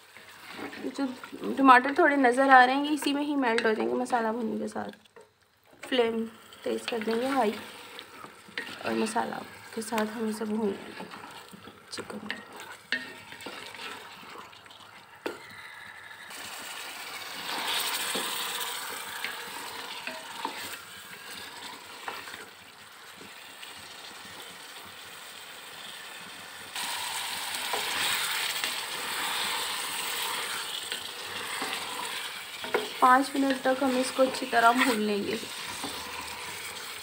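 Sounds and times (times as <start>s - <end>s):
chicken sizzling in a pot: 0.0s - 37.0s.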